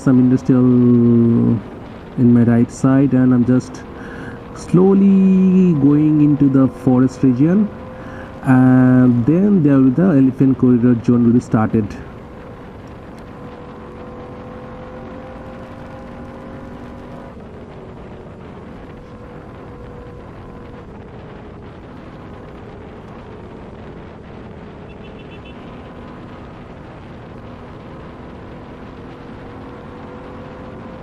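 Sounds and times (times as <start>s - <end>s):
motorcycle engine cruising: 0.0s - 31.0s
riding wind noise: 0.0s - 31.0s.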